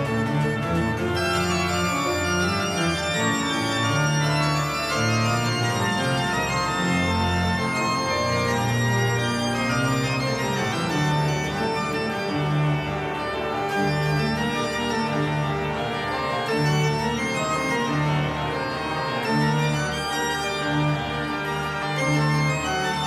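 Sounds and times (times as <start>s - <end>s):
pipe organ chords: 0.0s - 23.0s.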